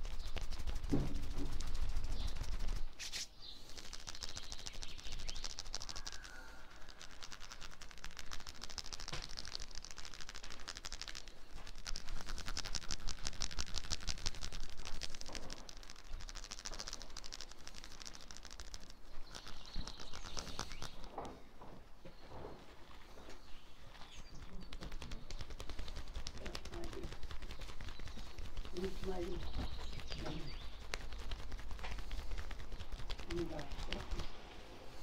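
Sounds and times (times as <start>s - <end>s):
hands massaging skin: 0.0s - 21.3s, 22.8s - 35.0s.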